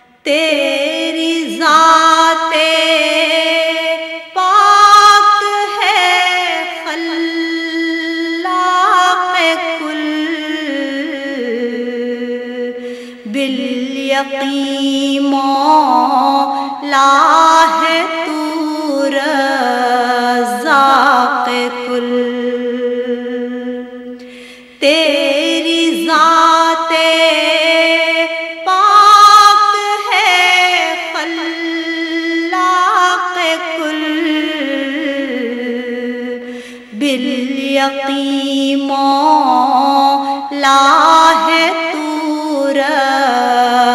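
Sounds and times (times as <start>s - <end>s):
person singing devotional song: 0.0s - 43.9s.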